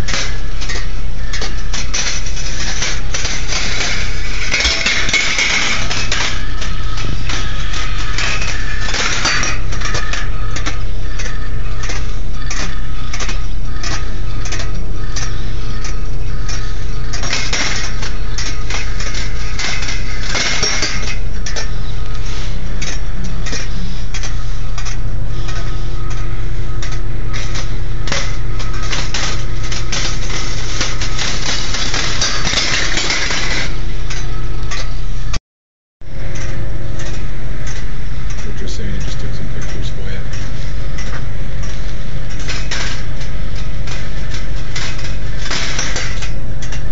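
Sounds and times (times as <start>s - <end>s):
steel balls clicking on wire: 0.0s - 34.9s, 36.3s - 46.9s
low hum: 0.0s - 35.4s, 36.0s - 46.9s.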